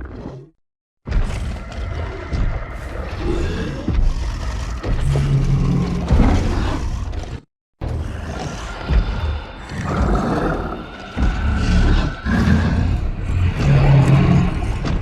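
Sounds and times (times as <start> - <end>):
monster roaring and growling: 1.1 - 15.0.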